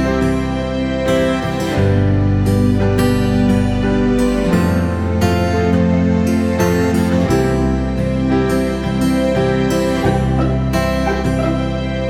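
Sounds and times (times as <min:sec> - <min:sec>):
soft keyboard and guitar music: 0:00.0 - 0:12.0.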